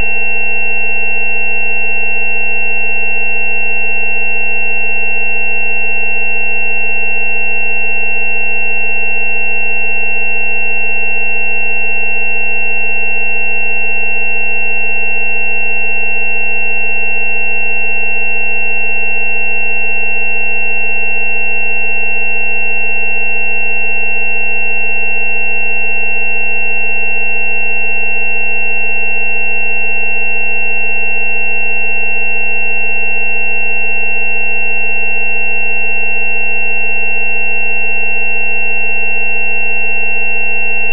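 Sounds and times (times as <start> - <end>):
high-pitched sine tone: 0.0 - 40.9
low sine tone: 0.0 - 40.9.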